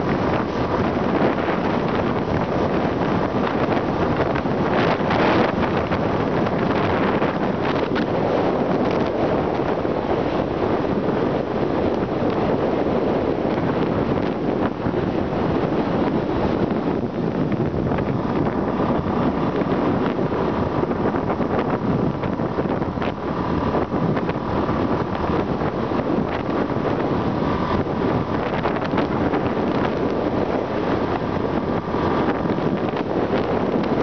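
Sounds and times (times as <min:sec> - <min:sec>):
motorbike engine running: 0:00.0 - 0:34.0
wind rushing over microphone: 0:00.0 - 0:34.0.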